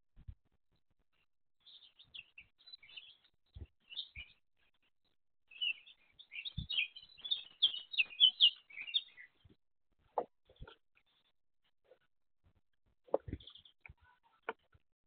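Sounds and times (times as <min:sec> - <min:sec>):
small birds chirping: 0:00.2 - 0:12.1, 0:13.0 - 0:14.8.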